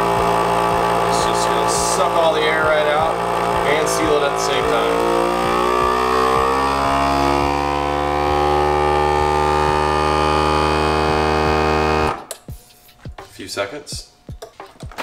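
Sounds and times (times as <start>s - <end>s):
vacuum sealer pump whine: 0.0s - 12.3s.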